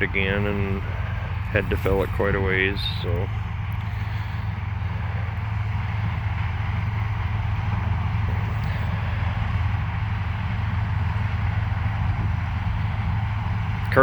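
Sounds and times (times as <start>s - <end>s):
deep engine drone: 0.0s - 14.0s.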